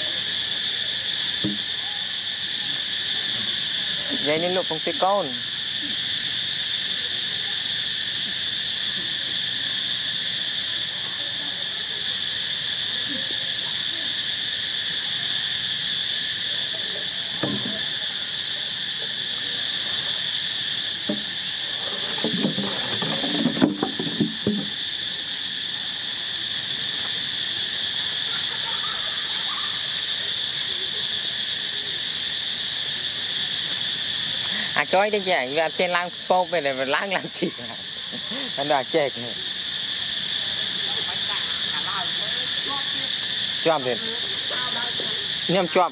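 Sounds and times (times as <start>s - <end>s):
insect chorus droning: 0.0s - 45.9s.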